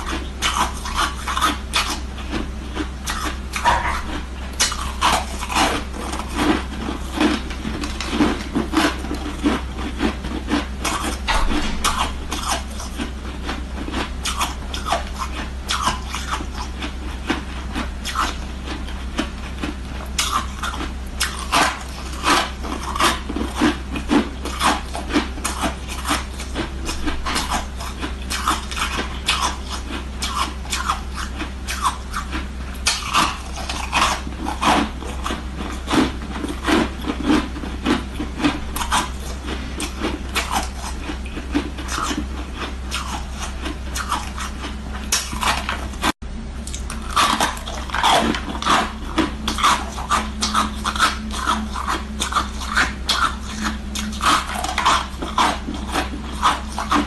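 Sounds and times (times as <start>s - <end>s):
ice crunching in chewing: 0.0s - 57.0s
low hum: 0.0s - 57.0s.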